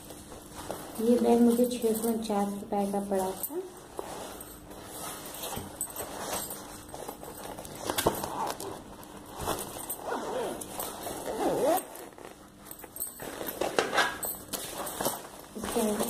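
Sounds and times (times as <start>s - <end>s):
backpack fabric rustling: 0.0s - 16.0s.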